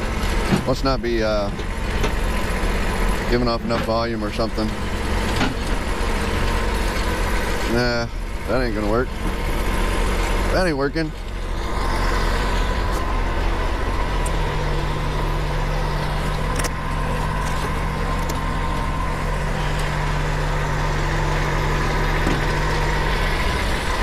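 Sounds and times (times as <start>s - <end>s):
diesel engine running: 0.0s - 24.0s
low steady hum: 0.0s - 24.0s.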